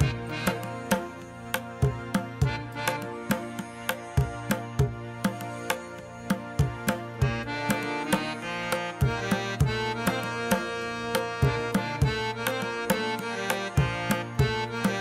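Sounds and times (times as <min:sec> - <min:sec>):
hand drum rhythm: 0:00.0 - 0:15.0
sustained melody: 0:00.0 - 0:15.0.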